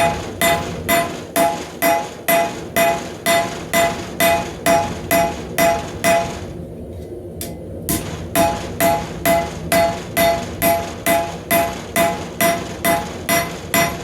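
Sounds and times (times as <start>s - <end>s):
hammer striking metal on anvil: 0.0s - 6.4s, 7.4s - 14.0s.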